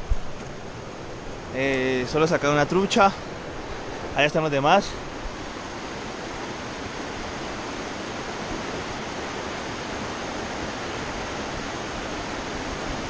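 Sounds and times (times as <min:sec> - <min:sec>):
river rushing over rapids: 0:00.0 - 0:13.0.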